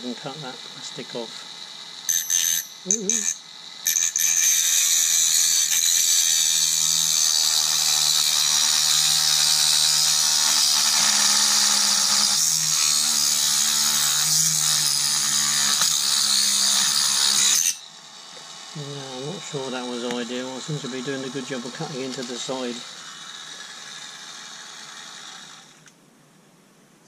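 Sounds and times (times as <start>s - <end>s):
rotary tool cutting plastic: 2.0s - 26.0s.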